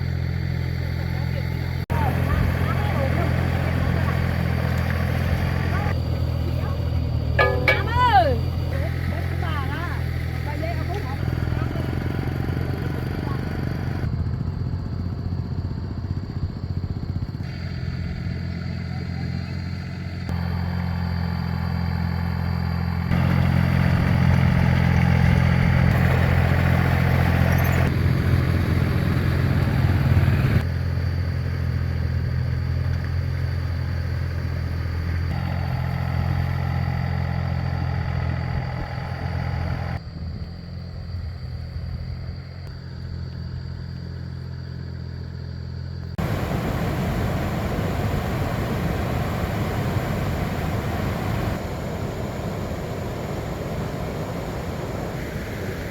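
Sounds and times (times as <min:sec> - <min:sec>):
walking tractor engine running: 0:00.0 - 0:40.0, 0:46.1 - 0:55.9.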